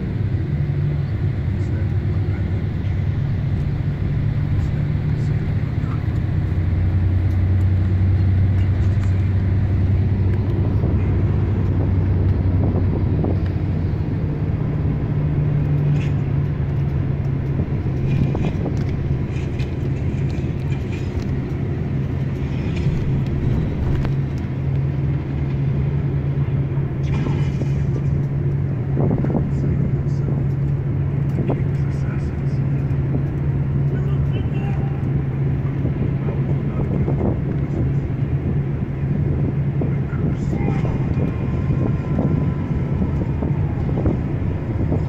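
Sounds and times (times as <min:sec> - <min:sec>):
bus engine droning: 0:00.0 - 0:45.0.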